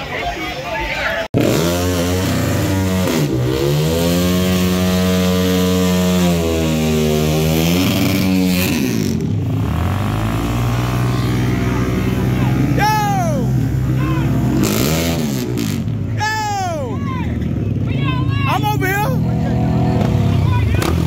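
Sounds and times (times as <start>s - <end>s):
dirt bike engine revving: 1.4s - 21.0s.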